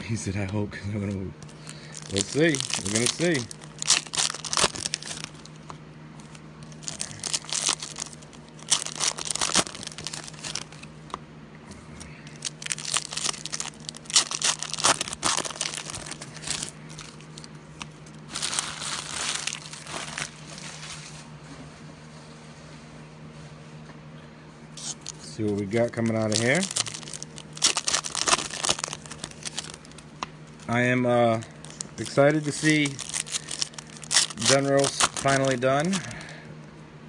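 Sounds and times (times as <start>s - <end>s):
foil wrappers tearing and crinkling: 1.4s - 10.9s, 12.0s - 21.1s, 24.8s - 36.4s.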